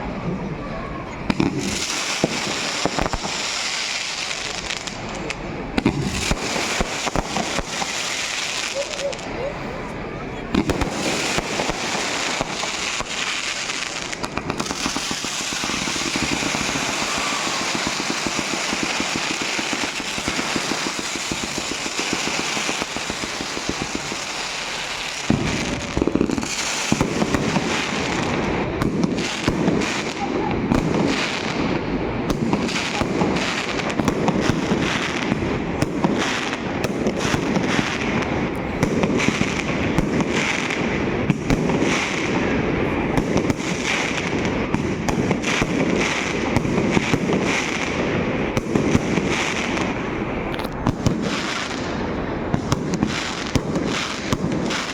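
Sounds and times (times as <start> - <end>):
firecrackers crackling: 0.0 - 54.9
fireworks bangs: 0.0 - 54.9.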